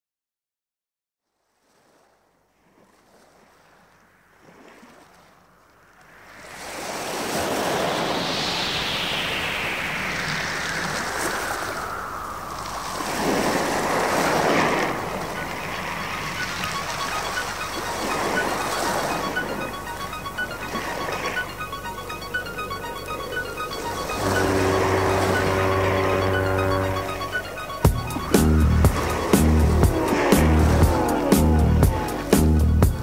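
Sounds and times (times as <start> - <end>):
ocean waves washing in: 1.5 - 33.0.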